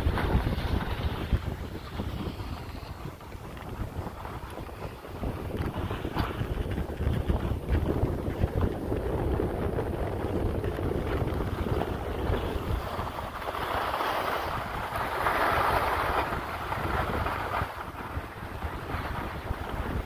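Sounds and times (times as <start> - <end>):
skis sliding on packed snow: 0.0 - 20.0
wind buffeting microphone: 0.0 - 20.0.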